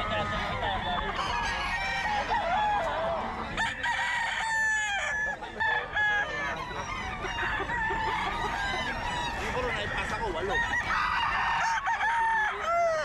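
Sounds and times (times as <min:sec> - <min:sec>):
roosters crowing and clucking: 0:00.0 - 0:13.0.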